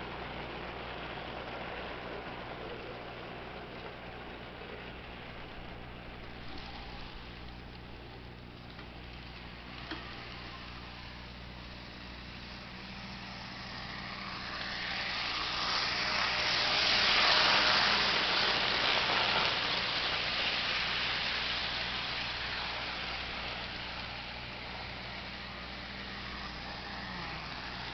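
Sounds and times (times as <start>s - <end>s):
model locomotive motor hum: 0.0s - 27.9s
model train wheels rumbling on rails: 0.0s - 27.9s.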